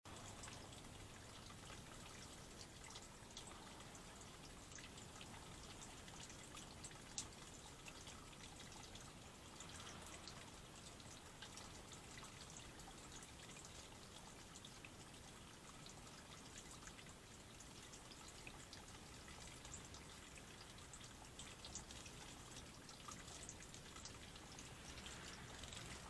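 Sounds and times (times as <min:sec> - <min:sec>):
water trickling and dripping: 0:00.1 - 0:26.0.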